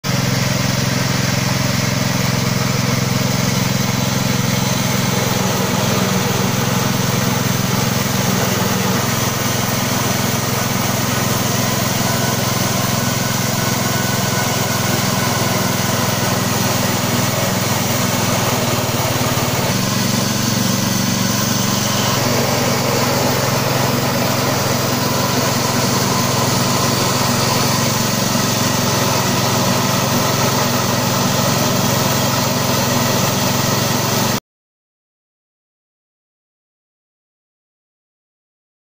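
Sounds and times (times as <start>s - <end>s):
petrol engine drone: 0.1s - 34.4s
rice huller mechanical hiss: 0.1s - 34.4s.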